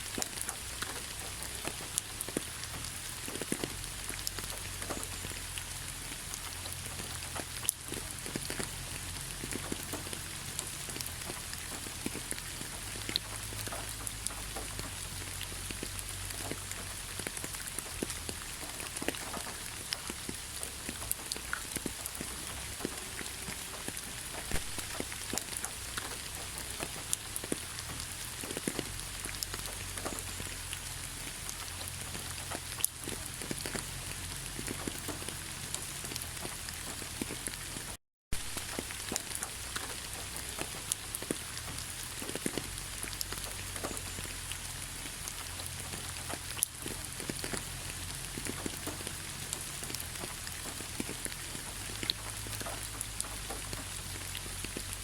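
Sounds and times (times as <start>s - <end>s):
close raindrop ticks: 0.0s - 55.0s
heavy rain falling: 0.0s - 55.0s.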